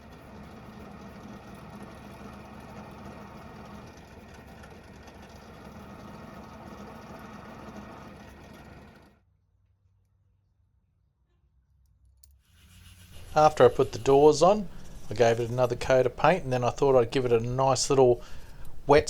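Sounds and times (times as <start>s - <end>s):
drill press motor running: 0.0s - 9.2s, 12.7s - 19.0s.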